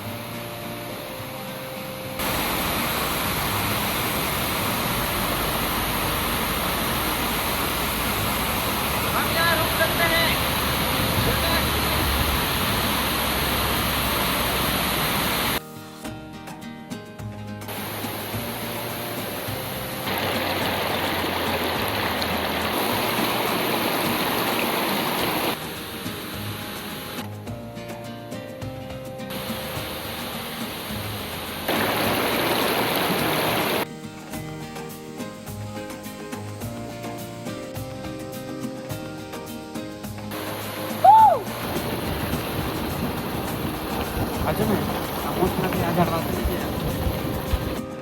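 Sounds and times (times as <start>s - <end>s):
waterfall rushing: 0.0s - 15.6s, 17.7s - 27.3s, 29.3s - 48.0s.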